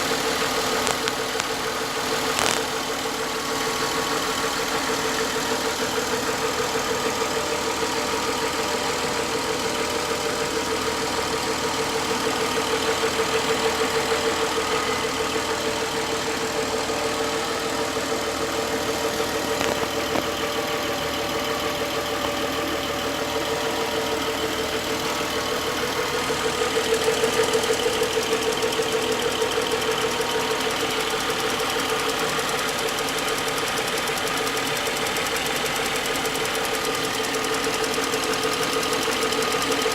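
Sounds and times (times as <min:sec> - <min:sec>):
car engine idling: 0:00.0 - 0:39.9
rapid knock in engine: 0:00.0 - 0:39.9.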